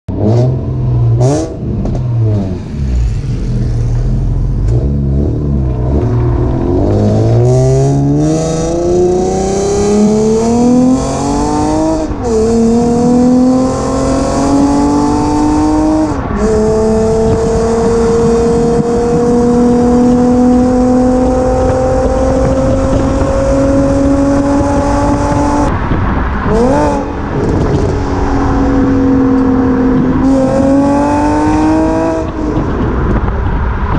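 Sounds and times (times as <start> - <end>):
car engine idling and accelerating: 0.1 - 33.9.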